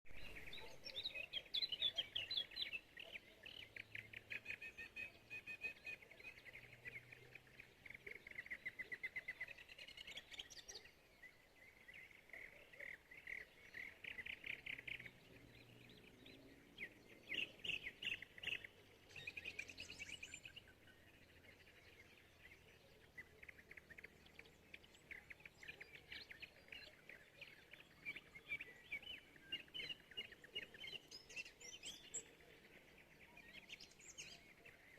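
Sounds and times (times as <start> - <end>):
small birds chirping trills: 0.1 - 34.9.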